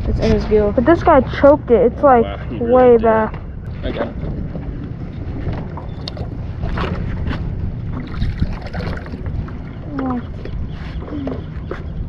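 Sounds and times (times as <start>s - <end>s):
water lapping and splashing: 0.0s - 12.0s
wind rumbling on microphone: 0.0s - 12.0s.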